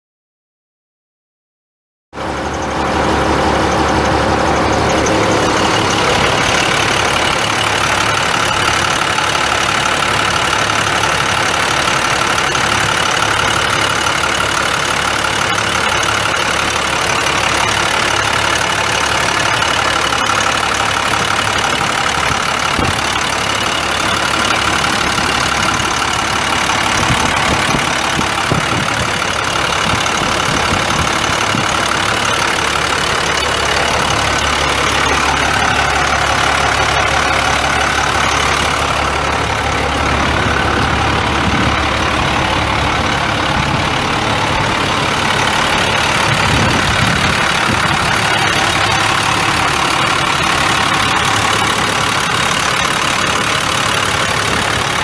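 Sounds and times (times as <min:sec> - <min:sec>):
diesel truck engine idling: 0:02.2 - 0:55.0.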